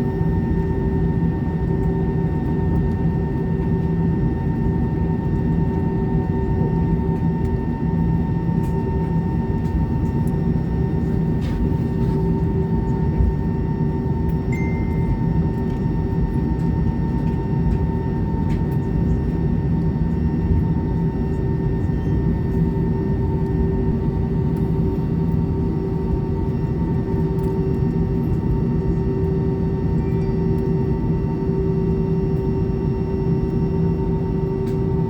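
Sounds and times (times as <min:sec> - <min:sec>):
jet engine cabin drone: 0:00.0 - 0:35.0.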